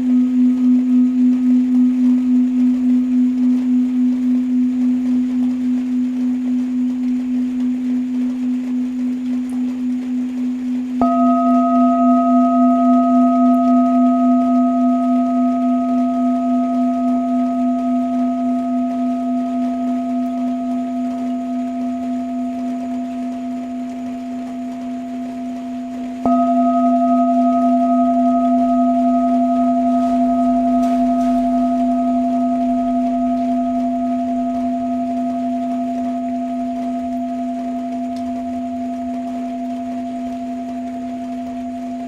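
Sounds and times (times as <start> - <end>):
singing bowl being struck: 0.0 - 42.0
singing bowl ringing: 0.0 - 42.0.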